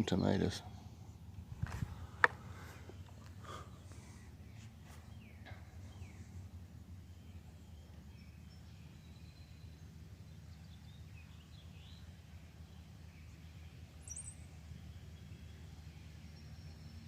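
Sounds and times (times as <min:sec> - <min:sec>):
distant songbirds calling: 0:00.0 - 0:17.0
low background rumble: 0:00.0 - 0:17.0.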